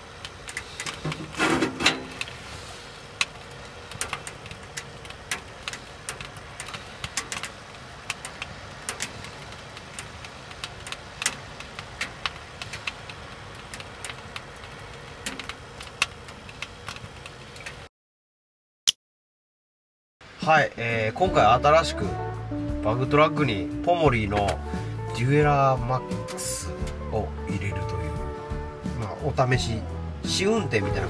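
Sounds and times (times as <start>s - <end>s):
firewood crackling in a stove: 0.0s - 17.9s, 20.2s - 31.0s.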